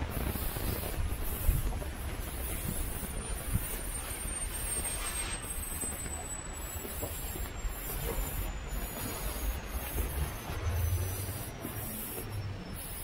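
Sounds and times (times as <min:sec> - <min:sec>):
distant city noise hiss: 0:00.0 - 0:13.0.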